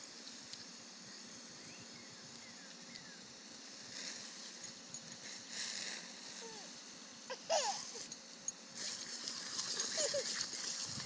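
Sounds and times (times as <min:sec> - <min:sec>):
sprinkler water spray hiss: 0:00.0 - 0:11.0.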